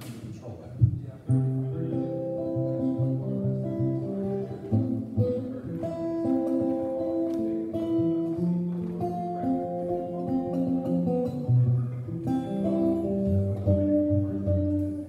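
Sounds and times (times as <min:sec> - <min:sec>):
guitar chords and notes: 0:00.8 - 0:15.0.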